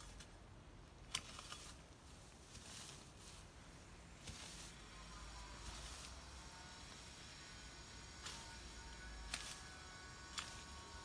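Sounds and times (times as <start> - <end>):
weeds rustling as hacked: 1.1 - 11.0.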